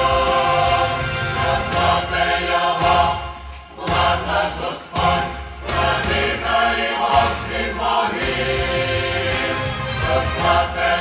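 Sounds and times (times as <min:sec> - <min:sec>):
mixed choir singing a hymn: 0:00.0 - 0:11.0.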